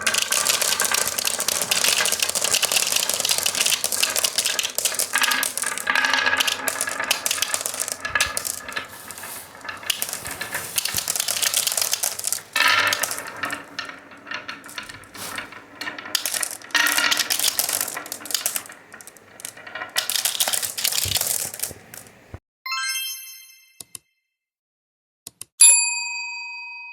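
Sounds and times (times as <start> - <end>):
marbles clattering down wooden run: 0.0 - 22.4.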